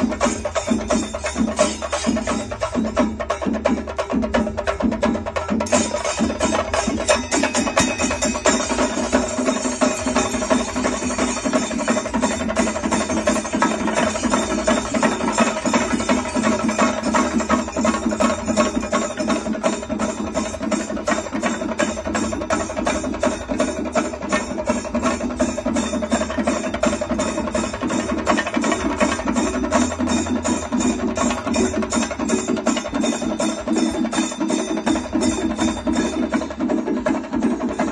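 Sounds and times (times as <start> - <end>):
drum ensemble playing with sticks: 0.0 - 37.9
hand cymbals clashing: 0.0 - 37.9.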